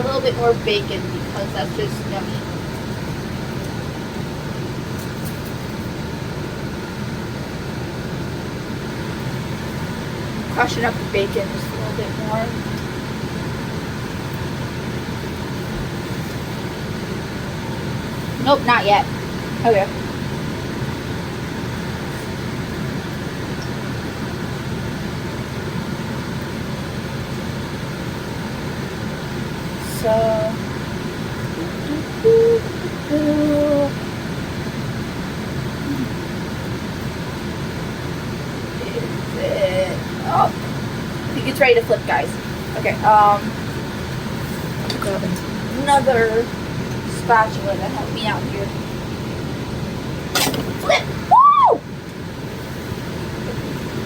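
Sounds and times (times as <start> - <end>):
fan whirring with hiss: 0.0 - 54.0
low rushing hum: 0.0 - 54.0.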